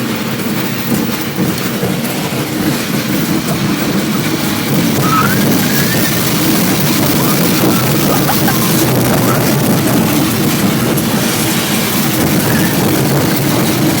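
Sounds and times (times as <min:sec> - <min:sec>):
train rumbling in motion: 0:00.0 - 0:14.0.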